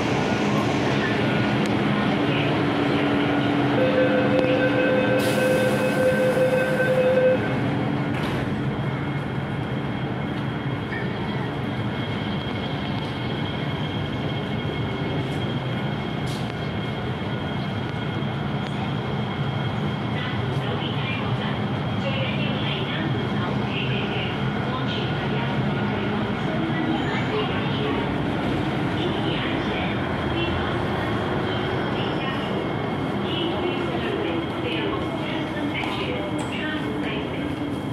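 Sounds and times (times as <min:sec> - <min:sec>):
metro train running noise: 0:00.0 - 0:37.9.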